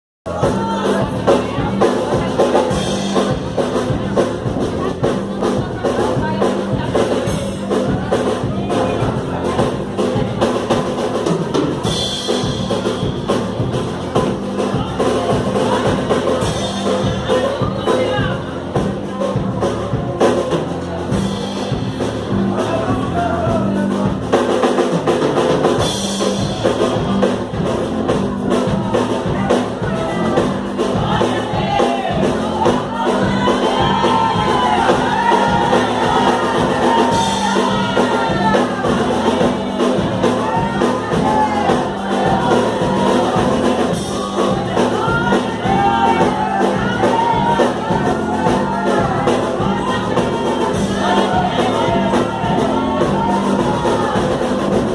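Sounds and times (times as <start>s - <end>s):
percussion group drumming: 0.3s - 54.9s
voices singing: 0.3s - 54.9s.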